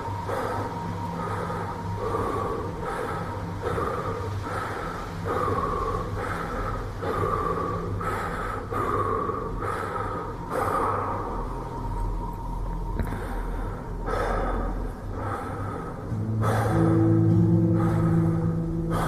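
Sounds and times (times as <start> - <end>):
rhythmic breathing: 0.0 - 19.0
steady low hum: 0.0 - 19.0.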